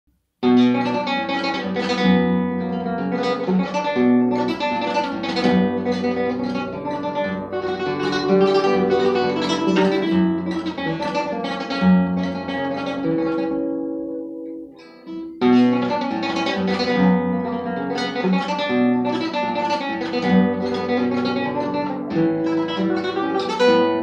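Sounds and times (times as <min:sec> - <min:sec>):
flamenco guitar tremolo: 0:00.4 - 0:24.0.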